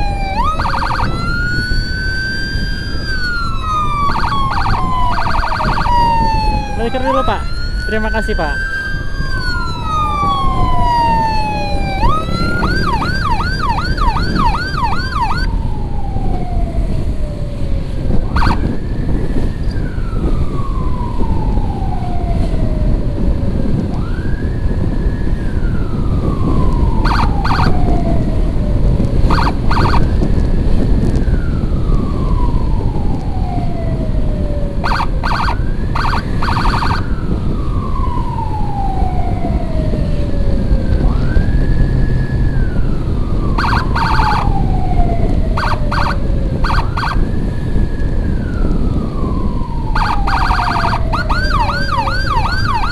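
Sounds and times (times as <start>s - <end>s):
short sharp siren blasts: 0.0s - 17.2s, 17.8s - 22.6s, 26.2s - 28.5s, 29.2s - 30.3s, 31.8s - 40.2s, 40.9s - 52.9s
emergency siren wailing: 0.0s - 52.9s
motorcycle road and wind noise: 0.0s - 52.9s.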